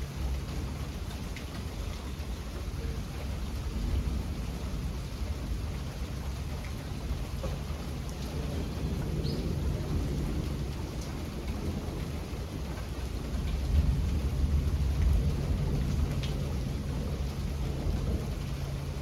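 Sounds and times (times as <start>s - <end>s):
steady rain: 0.0s - 19.0s
thunder rumbling: 2.2s - 19.0s.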